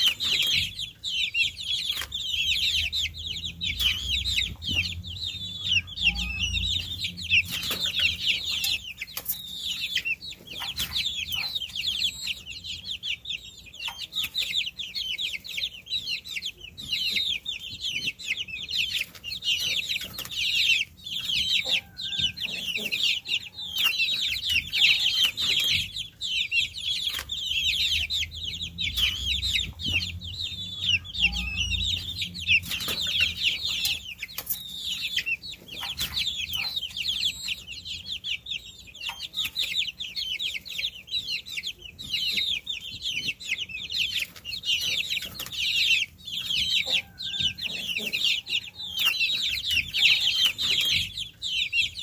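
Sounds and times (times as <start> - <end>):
baby chicks peeping: 0.0 - 52.0.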